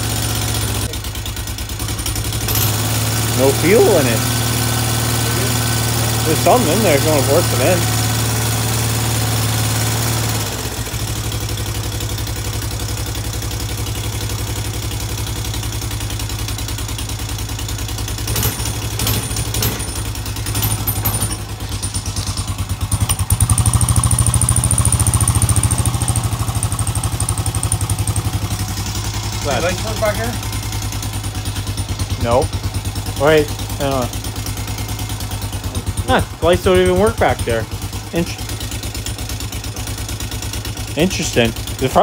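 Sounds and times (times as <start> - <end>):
atv engine idling: 0.0 - 42.0.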